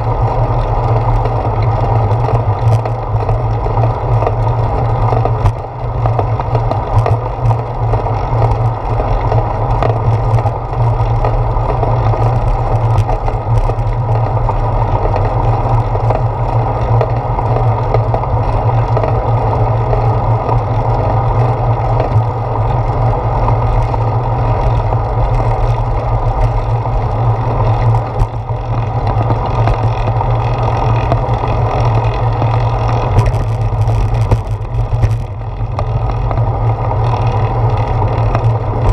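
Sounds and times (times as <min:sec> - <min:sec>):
bicycle rolling on pavement: 0:00.0 - 0:38.9
wind on camera: 0:00.0 - 0:38.9.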